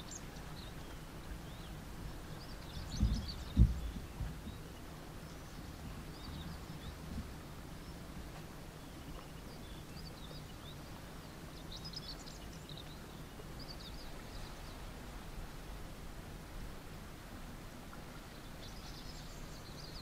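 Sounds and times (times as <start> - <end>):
small birds chirping: 0.0 - 15.0, 18.2 - 20.0
low steady rumble: 0.0 - 20.0.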